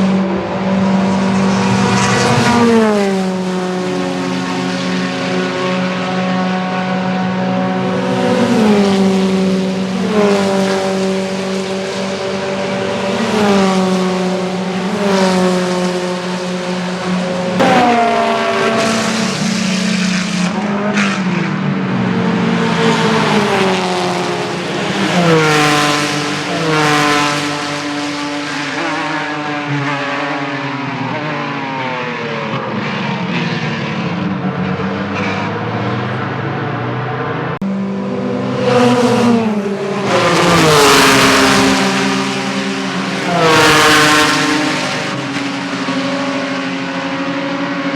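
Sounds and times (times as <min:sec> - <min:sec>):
race cars passing at high revs: 0:00.0 - 0:47.9.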